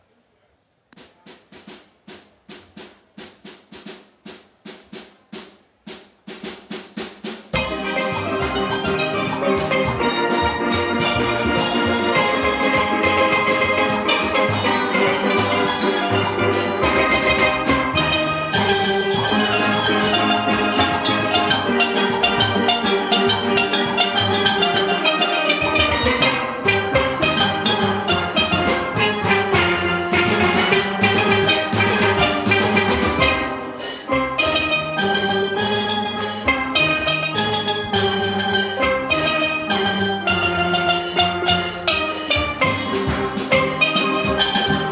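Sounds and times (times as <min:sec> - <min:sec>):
drum kit percussion: 0:01.0 - 0:44.9
steelpans playing melody: 0:07.6 - 0:44.9.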